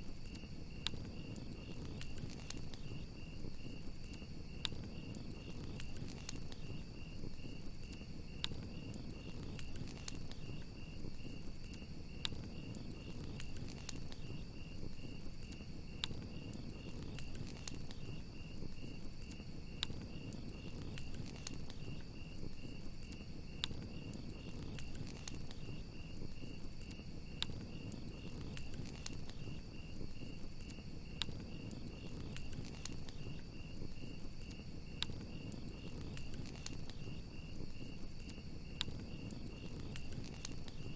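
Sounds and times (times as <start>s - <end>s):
crickets chirping: 0.0s - 40.9s
fire crackling and popping: 0.0s - 40.9s.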